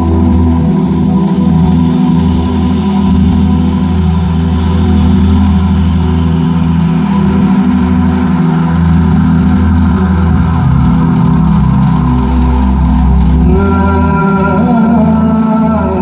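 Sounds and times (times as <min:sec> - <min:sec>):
loud distorted sound system bass: 0:00.0 - 0:16.0.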